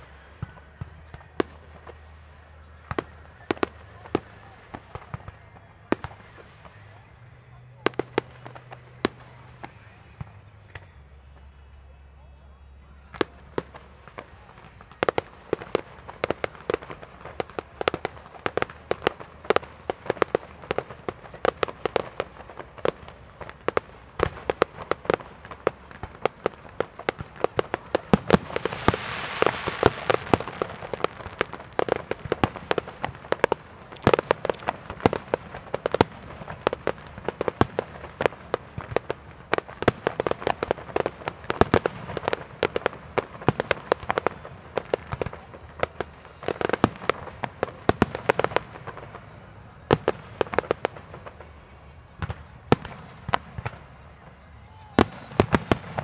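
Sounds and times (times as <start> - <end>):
fireworks bangs: 0.0 - 11.5, 13.0 - 56.0
hissing crackle of fireworks: 0.0 - 56.0.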